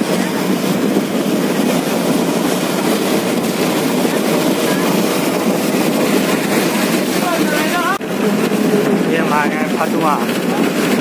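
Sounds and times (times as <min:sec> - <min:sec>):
bus engine: 0:00.0 - 0:11.0
road noise: 0:00.0 - 0:11.0.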